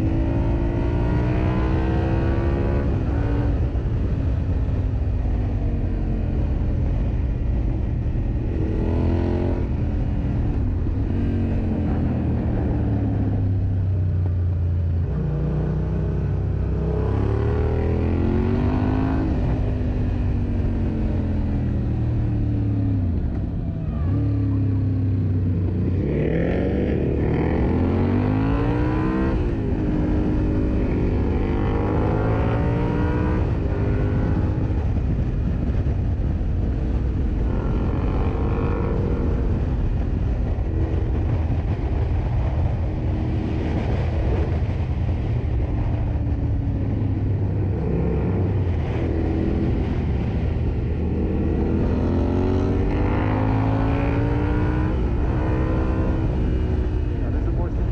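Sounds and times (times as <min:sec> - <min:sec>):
motorcycle engine accelerating: 0:00.0 - 0:57.9
wind noise: 0:00.0 - 0:57.9.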